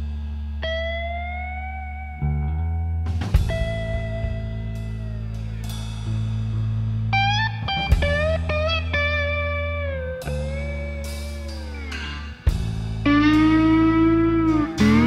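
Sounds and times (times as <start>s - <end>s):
blues guitar with bending notes: 0.0s - 15.0s
steady bass notes: 0.0s - 15.0s.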